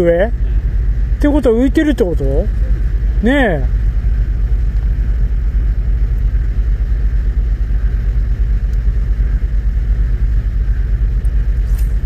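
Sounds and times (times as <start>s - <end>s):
fluttering low rumble: 0.0s - 12.0s.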